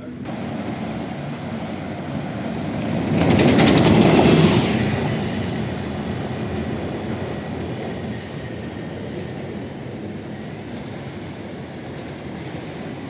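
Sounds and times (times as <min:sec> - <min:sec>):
tram wheels rattling on rails: 0:00.0 - 0:13.0.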